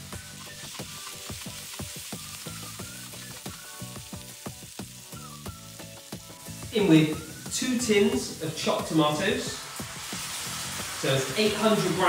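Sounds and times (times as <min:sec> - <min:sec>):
food sizzling in a pan: 0:00.0 - 0:12.0
sharp crackles of frying: 0:00.0 - 0:12.0.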